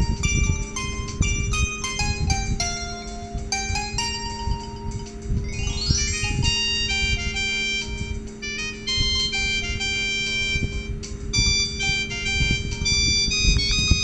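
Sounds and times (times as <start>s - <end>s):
mobile phone ringtone melody: 0.0s - 14.0s
steady low hum: 0.0s - 14.0s.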